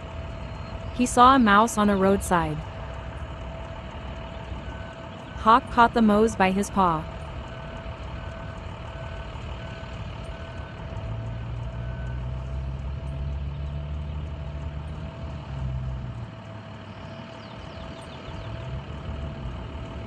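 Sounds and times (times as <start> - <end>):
steady whine: 0.0 - 20.0
vehicle engine running: 0.0 - 20.0.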